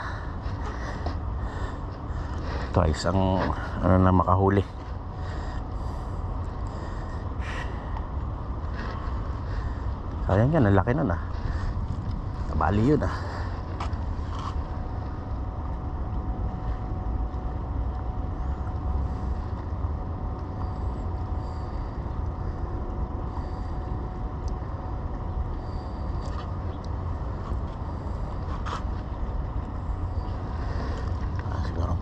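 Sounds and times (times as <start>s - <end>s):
low outdoor rumble: 0.0s - 32.0s.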